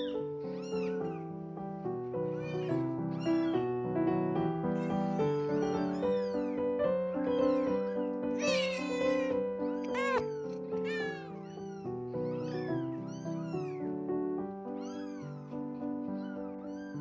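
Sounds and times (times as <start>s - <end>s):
kittens mewing: 0.0s - 14.1s, 14.7s - 17.0s
piano music: 0.0s - 17.0s.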